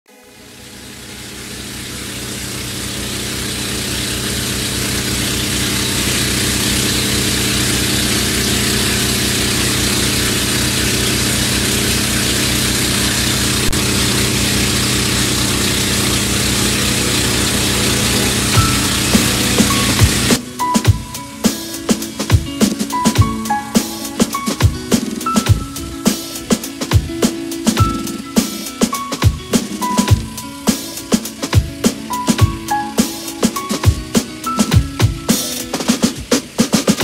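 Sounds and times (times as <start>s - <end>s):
boat engine running: 0.1s - 37.0s
rushing water: 1.2s - 37.0s.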